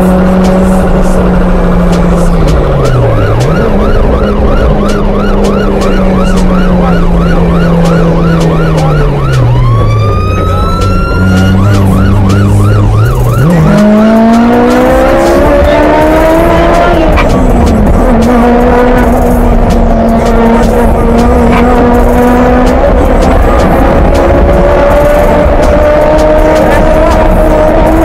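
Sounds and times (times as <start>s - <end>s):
police siren yelping and wailing: 0.0s - 28.0s.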